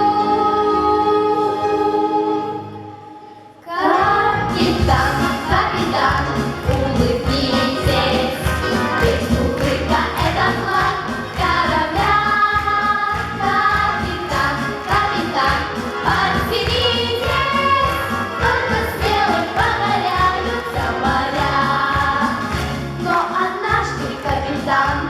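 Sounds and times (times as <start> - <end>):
choir singing: 0.0 - 25.0
instrumental accompaniment with beat: 4.5 - 25.0.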